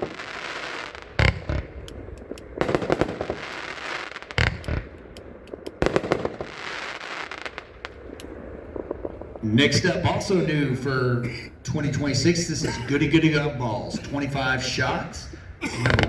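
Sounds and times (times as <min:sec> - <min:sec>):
fireworks bangs: 0:00.0 - 0:16.0
fireworks hissing crackle: 0:00.0 - 0:16.0.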